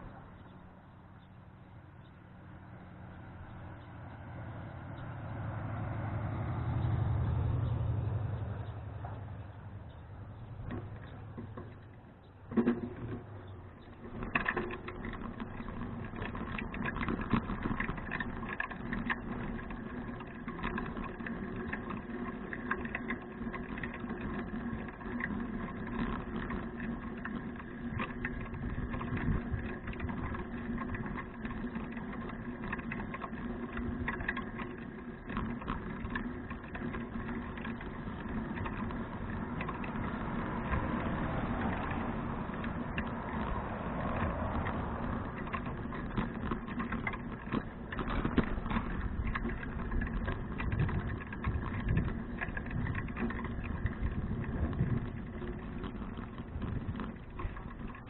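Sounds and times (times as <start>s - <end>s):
bicycle tyres and drivetrain clicking: 0.0s - 58.0s.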